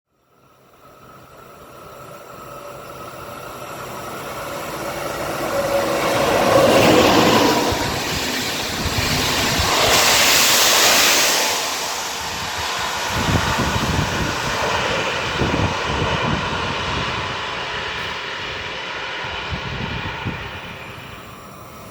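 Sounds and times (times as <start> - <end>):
train passing through station: 0.1 - 21.9.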